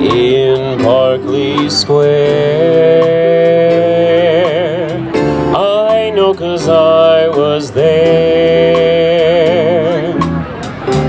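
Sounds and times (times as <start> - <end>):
live band playing slow ballad: 0.0 - 11.0.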